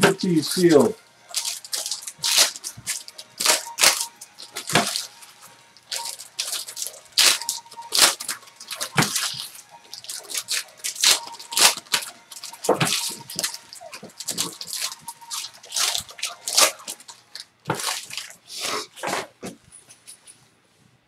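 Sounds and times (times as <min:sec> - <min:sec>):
wrappers crinkling and tearing: 0:00.0 - 0:19.4.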